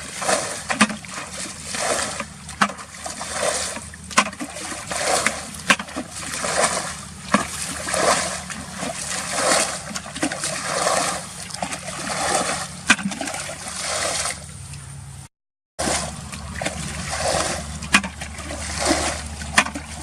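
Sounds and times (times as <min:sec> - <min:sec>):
water splashing rhythmically: 0:00.0 - 0:14.8, 0:15.8 - 0:20.0.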